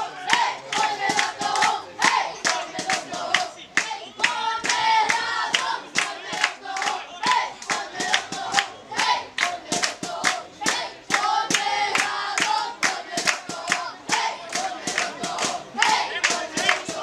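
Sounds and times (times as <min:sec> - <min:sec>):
crowd chanting: 0:00.0 - 0:17.0
hand claps: 0:00.3 - 0:17.0.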